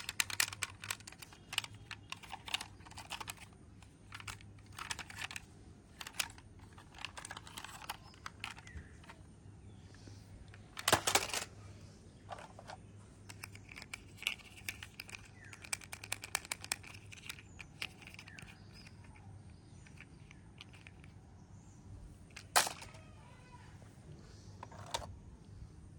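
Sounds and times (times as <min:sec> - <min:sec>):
plastic toys clicking and rattling: 0:00.0 - 0:09.2, 0:10.5 - 0:11.6, 0:12.2 - 0:21.2, 0:22.2 - 0:23.6, 0:24.6 - 0:25.1.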